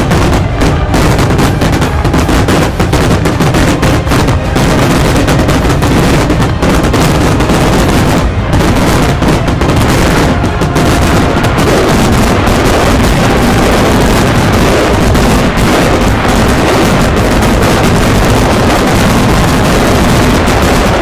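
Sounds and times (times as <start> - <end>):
fireworks banging: 0.0 - 21.0.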